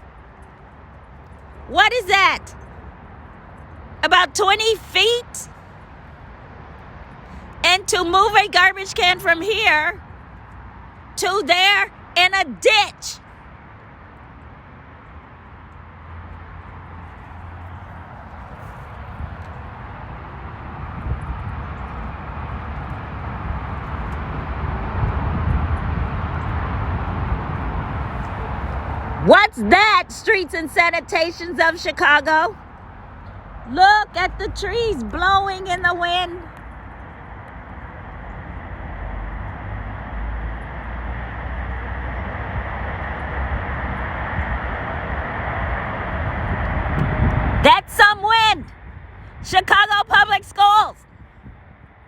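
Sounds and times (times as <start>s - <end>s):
wind gusting against microphone: 0.0s - 52.0s.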